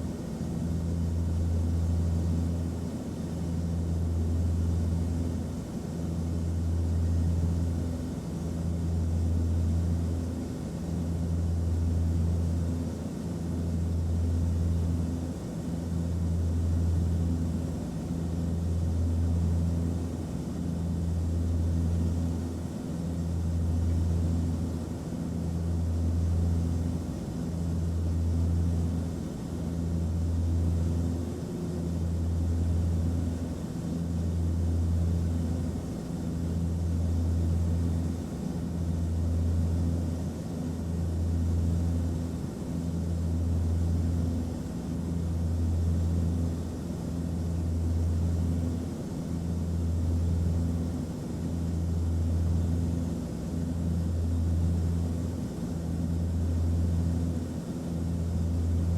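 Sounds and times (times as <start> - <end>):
aircraft engine hum: 0.0 - 58.9.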